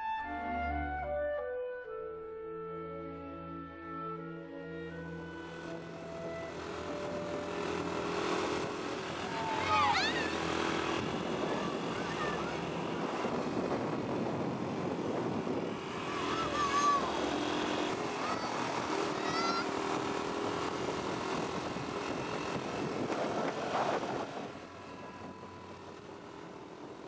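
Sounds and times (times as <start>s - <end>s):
motorcycle engine running: 5.3s - 27.0s.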